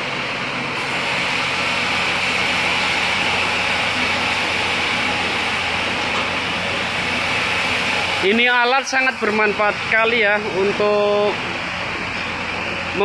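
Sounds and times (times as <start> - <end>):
machinery humming: 0.0 - 13.0
machinery hissing: 0.8 - 11.4.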